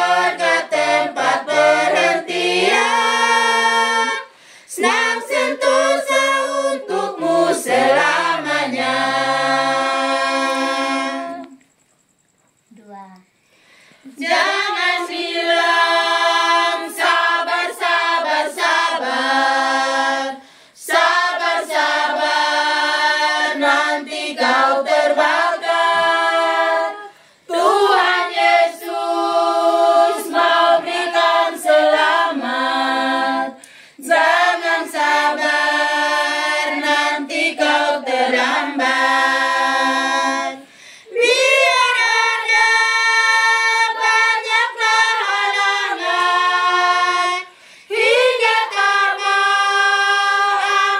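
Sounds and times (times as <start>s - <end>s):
group of women singing a hymn: 0.0s - 11.8s, 13.6s - 50.9s.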